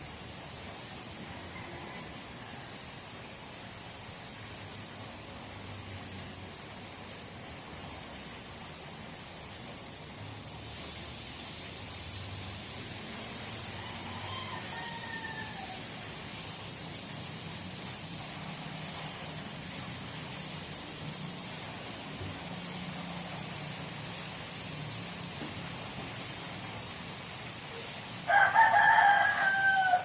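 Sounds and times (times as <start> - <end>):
paint spray gun hissing: 0.0 - 30.0.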